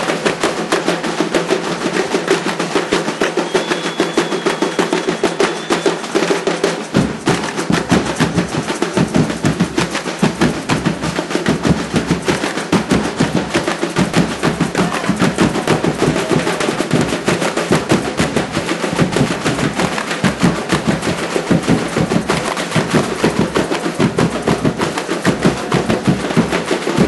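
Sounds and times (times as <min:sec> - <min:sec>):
samba drum band: 0:00.0 - 0:27.0.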